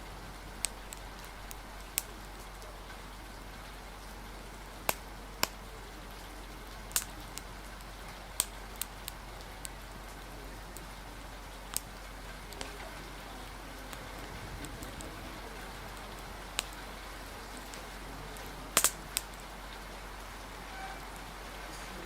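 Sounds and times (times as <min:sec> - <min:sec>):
rain hiss: 0:00.0 - 0:22.0
wood fire crackling: 0:00.0 - 0:22.0.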